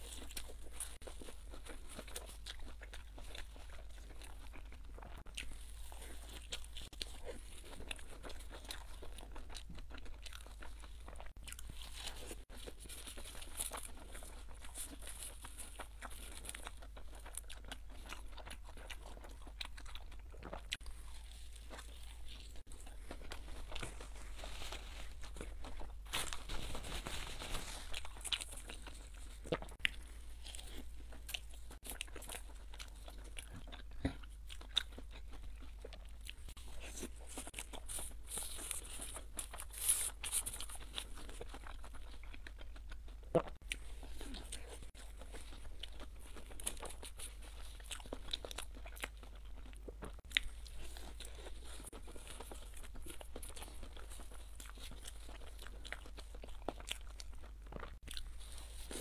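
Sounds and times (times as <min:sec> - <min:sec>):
chewing and crunching bread: 0:00.0 - 0:59.0
faint steady low hum: 0:00.0 - 0:59.0.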